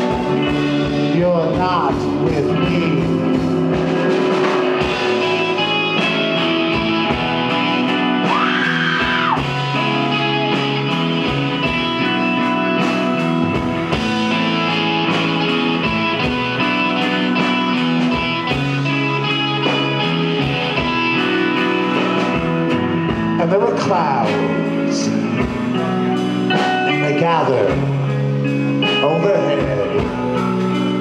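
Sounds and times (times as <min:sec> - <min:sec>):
electric guitar: 0:00.0 - 0:31.0
steady drums: 0:00.0 - 0:31.0.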